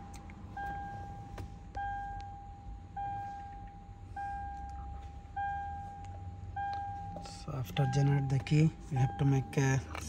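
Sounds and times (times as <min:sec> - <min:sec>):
car warning chime ding: 0:00.6 - 0:10.0.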